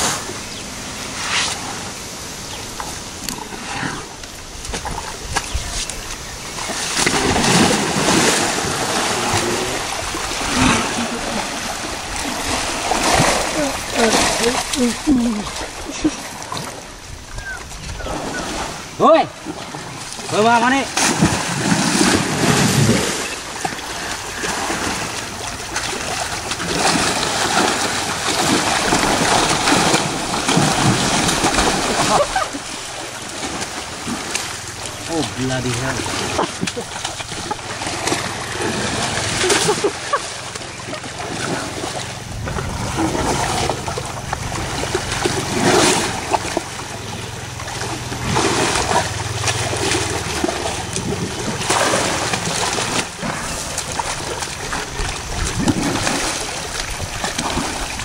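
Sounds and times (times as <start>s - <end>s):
water splashing and churning: 0.0s - 58.0s.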